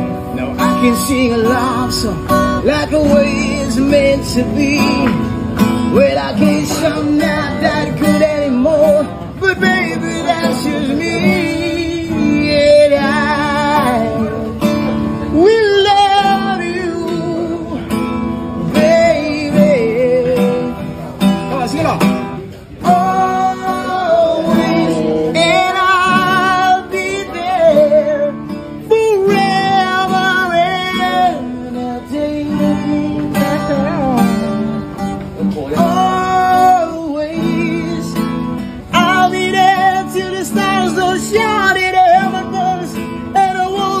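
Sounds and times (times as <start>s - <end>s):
strummed acoustic guitar: 0.0s - 44.0s.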